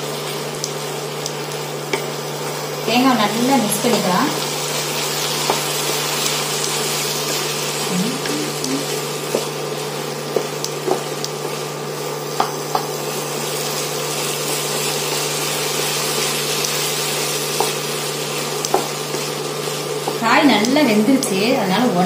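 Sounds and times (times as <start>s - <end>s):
steady hum and hiss: 0.0s - 22.0s.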